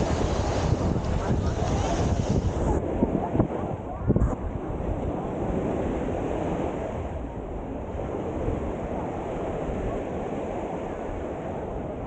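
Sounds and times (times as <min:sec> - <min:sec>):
small waves breaking on shore: 0:00.0 - 0:12.0
wind rumbling on microphone: 0:00.0 - 0:12.0.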